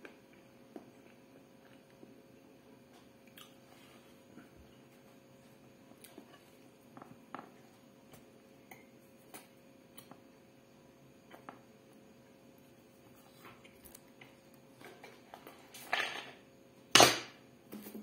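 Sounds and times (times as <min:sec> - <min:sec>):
quiet chewing and mouth sounds: 0:00.0 - 0:10.3, 0:11.2 - 0:15.6.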